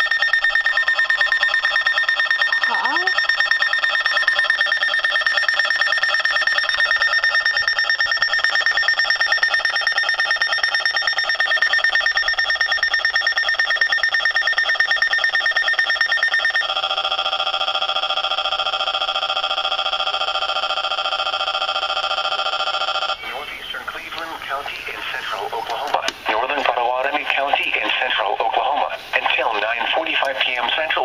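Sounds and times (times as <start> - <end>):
rapidly pulsing electronic tone: 0.0 - 25.6.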